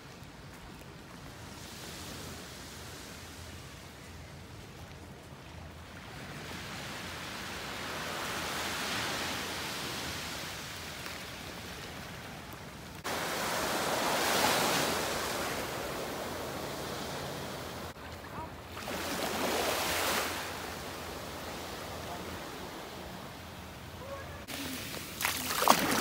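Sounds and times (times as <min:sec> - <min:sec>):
small waves washing on shore: 0:04.8 - 0:26.0.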